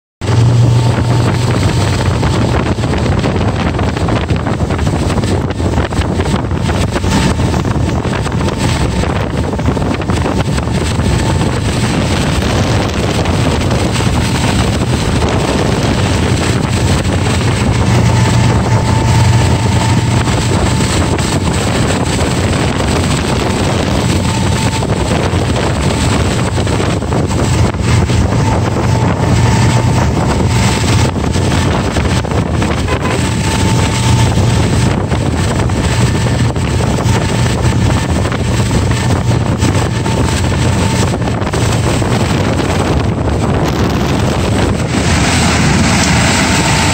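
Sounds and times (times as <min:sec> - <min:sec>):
boat engine droning: 0:00.2 - 0:46.9
wind buffeting microphone: 0:00.2 - 0:46.9.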